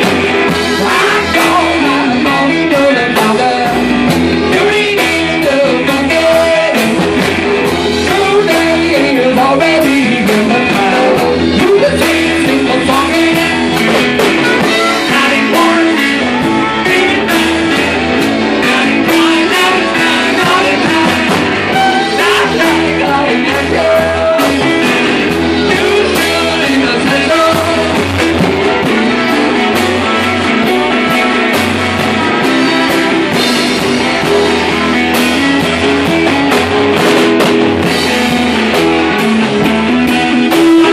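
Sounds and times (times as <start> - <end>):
person singing: 0.0 - 36.9, 37.8 - 40.9
drums: 0.0 - 40.9
electric guitar: 0.0 - 40.9
live rock band playing: 0.0 - 40.9.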